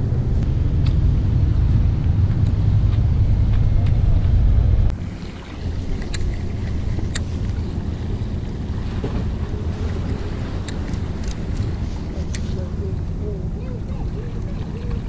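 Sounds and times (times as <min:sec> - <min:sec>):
sea: 0:00.0 - 0:15.0
wind buffeting microphone: 0:00.0 - 0:15.0.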